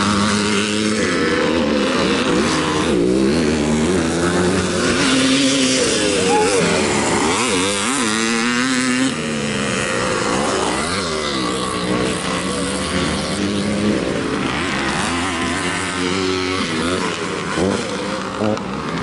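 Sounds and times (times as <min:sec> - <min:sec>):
motocross motorcycles revving: 0:00.0 - 0:19.0.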